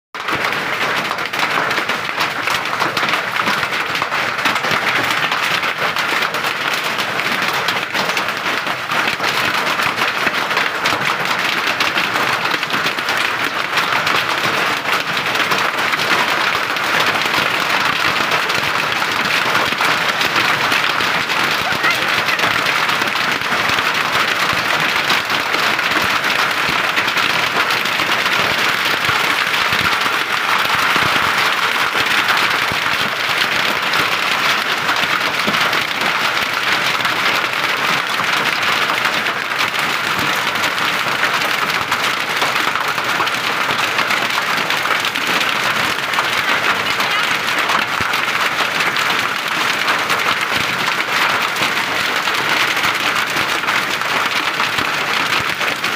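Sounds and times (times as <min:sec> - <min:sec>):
rain and hail falling: 0:00.2 - 0:55.9.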